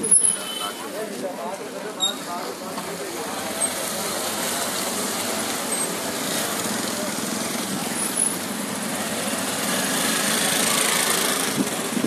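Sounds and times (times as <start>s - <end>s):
crowd chatter: 0.0s - 12.0s
motorcycles passing: 0.0s - 12.0s.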